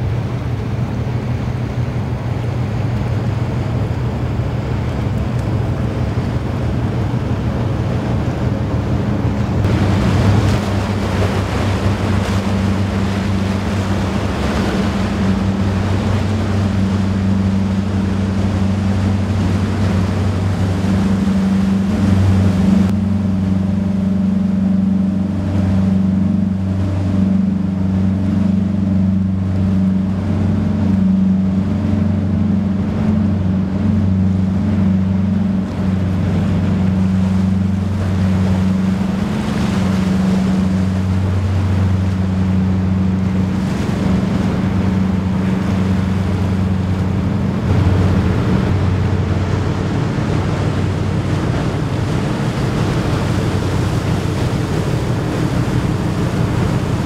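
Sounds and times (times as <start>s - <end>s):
marine diesel engines droning: 0.0s - 57.0s
water wash: 0.0s - 57.0s.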